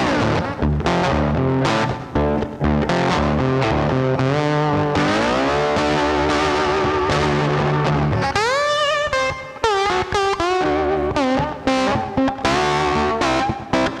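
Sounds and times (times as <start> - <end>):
distorted electric guitar lead: 0.0 - 14.0
rock music: 0.0 - 14.0.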